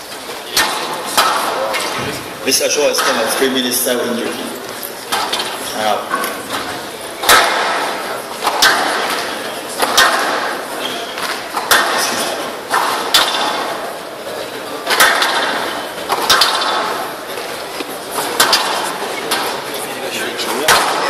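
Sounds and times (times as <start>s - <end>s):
murmur of voices: 0.0s - 21.0s
squash ball knocks echoing: 0.5s - 4.2s, 5.1s - 19.7s, 20.4s - 21.0s.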